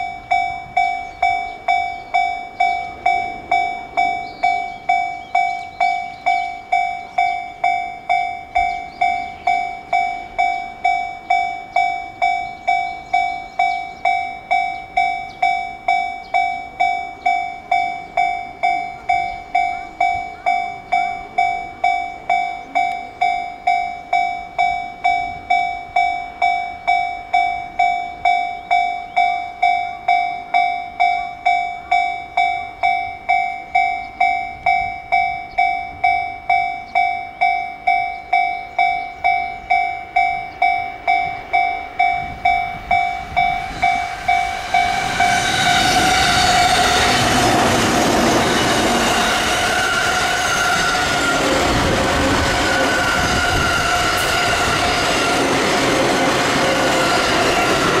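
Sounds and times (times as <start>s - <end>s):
level crossing bell ringing: 0.0s - 58.0s
train passing: 0.0s - 58.0s.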